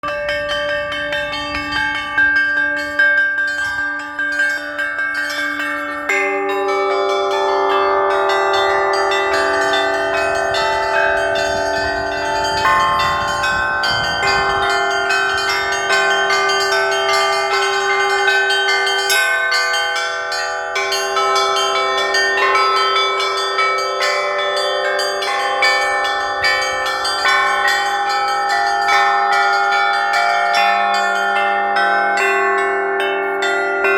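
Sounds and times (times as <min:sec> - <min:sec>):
church bells ringing: 0:00.0 - 0:33.9
deep loud bells: 0:00.0 - 0:33.9.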